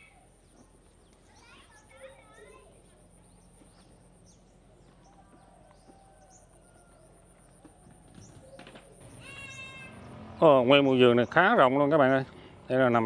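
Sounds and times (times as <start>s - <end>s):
outdoor ambience: 0.0s - 13.0s
small birds chirping: 0.0s - 13.0s.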